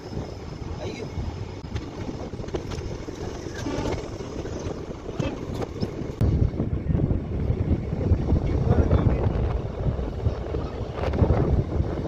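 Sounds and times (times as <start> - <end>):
train rumbling: 0.0 - 12.0
wind buffeting microphone: 0.0 - 12.0.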